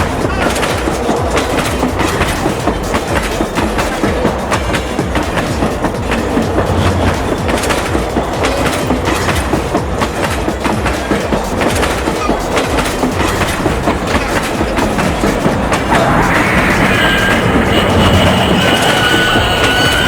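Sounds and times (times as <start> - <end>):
toy train rattling clicks: 0.0 - 20.0.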